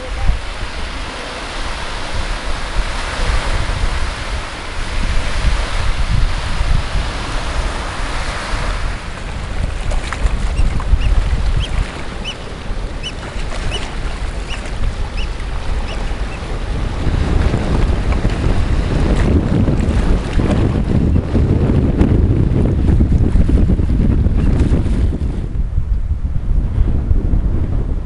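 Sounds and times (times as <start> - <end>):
sea surf on rocky shore: 0.0 - 26.3
wind buffeting microphone: 0.0 - 28.0.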